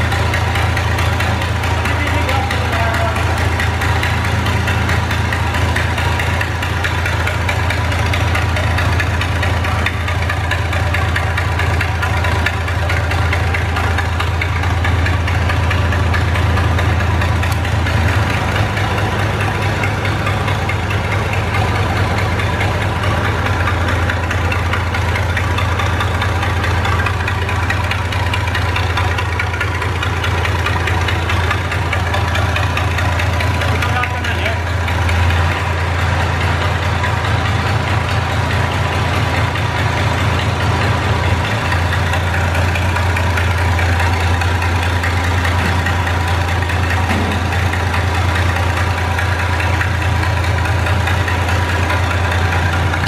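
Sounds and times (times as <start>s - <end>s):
diesel engine running loudly: 0.0s - 53.0s.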